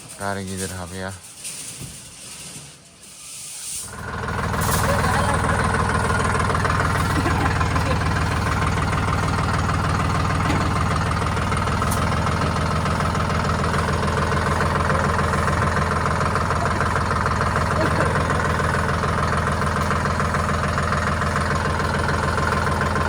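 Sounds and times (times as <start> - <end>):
vehicle engine running: 3.9 - 23.0.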